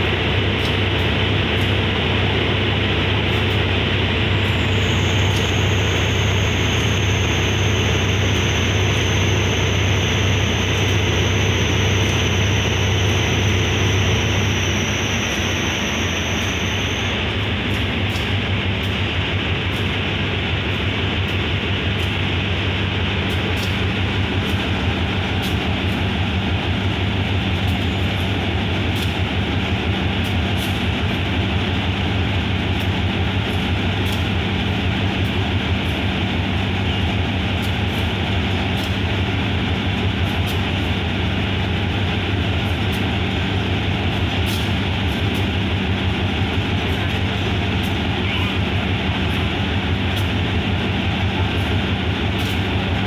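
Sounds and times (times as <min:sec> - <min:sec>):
diesel locomotive idling: 0:00.0 - 0:53.0.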